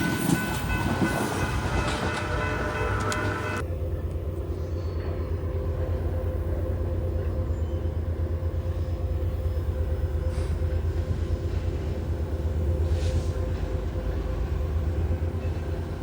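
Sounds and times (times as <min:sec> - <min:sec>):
train rumbling by: 0:00.0 - 0:16.0.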